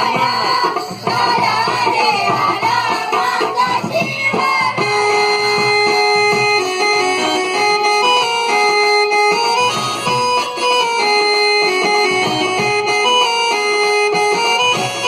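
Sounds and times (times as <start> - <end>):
held keyboard notes: 0.0 - 15.0
wavering folk vocal melody: 0.0 - 15.0.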